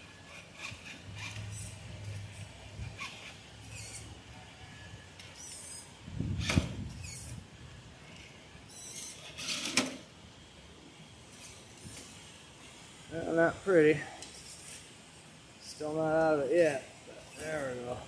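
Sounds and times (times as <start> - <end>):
electric motor and gear whir: 0.0 - 18.0.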